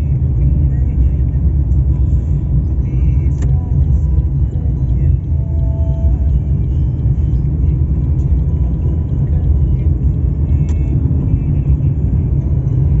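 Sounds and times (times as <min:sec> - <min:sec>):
vehicle driving on paved road: 0:00.0 - 0:13.0.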